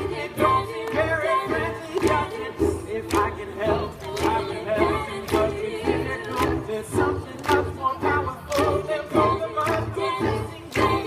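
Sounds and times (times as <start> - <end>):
group singing in harmony: 0.0 - 11.0.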